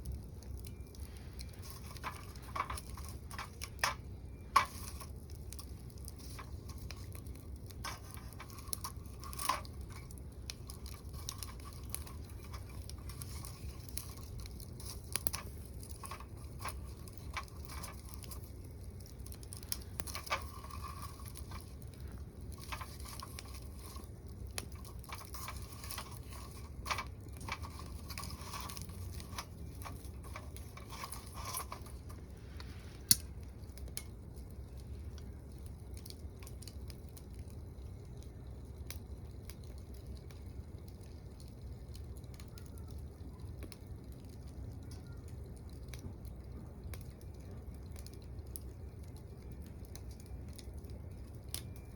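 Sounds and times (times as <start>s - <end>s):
low steady rumble: 0.0s - 51.9s
wood fire crackling: 0.0s - 51.9s.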